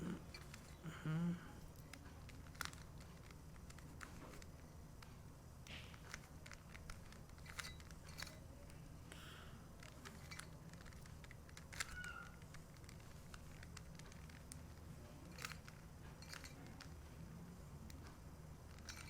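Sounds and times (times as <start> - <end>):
low steady hum: 0.0 - 19.0
puzzle cube layers clicking: 1.6 - 19.0.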